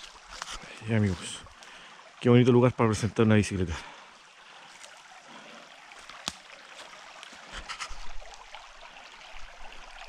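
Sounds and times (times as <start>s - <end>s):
creek running over stones: 0.0s - 10.0s.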